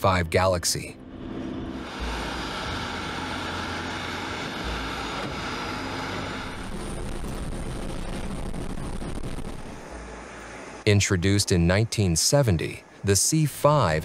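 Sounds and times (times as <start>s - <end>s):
aircraft engine running: 0.0s - 14.0s.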